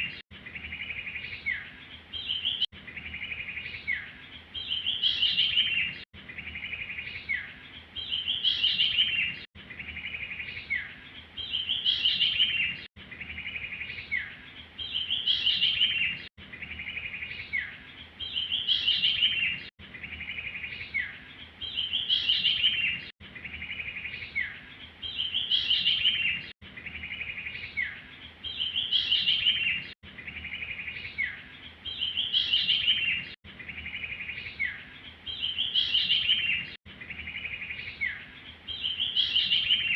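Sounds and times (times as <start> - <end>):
recorded songbird call: 0.0 - 39.9.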